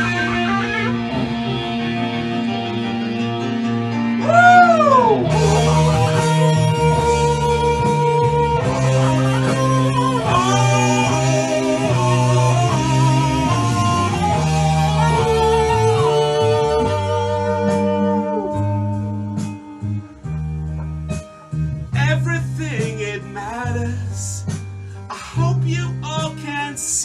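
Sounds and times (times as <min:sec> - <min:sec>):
electric guitar: 0:00.0 - 0:26.4
bass line: 0:00.0 - 0:27.0.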